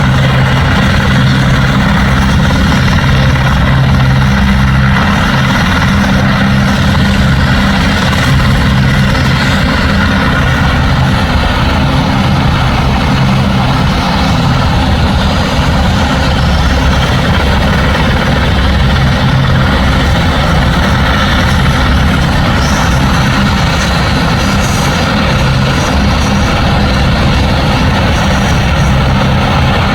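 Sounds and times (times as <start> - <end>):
helicopter engine and rotor: 0.0 - 29.9.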